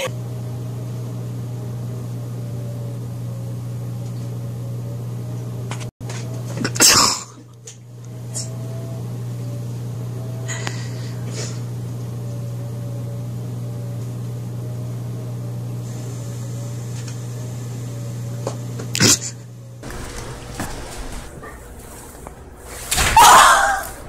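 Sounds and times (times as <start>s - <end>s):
low appliance hum: 0.0s - 24.0s.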